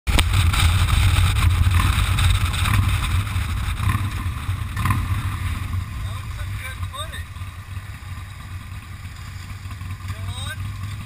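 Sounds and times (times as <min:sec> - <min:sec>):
motorcycle engine rumble: 0:00.1 - 0:11.0.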